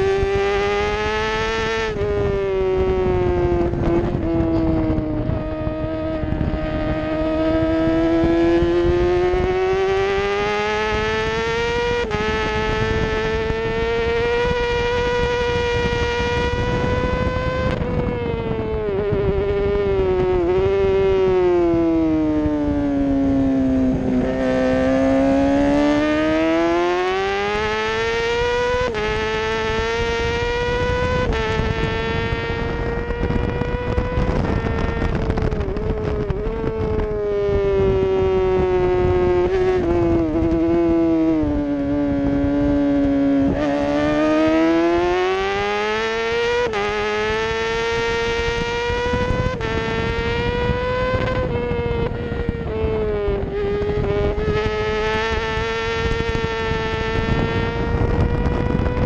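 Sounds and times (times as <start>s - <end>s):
motorcycle engine at high revs: 0.0s - 59.0s
wind noise: 0.0s - 59.0s.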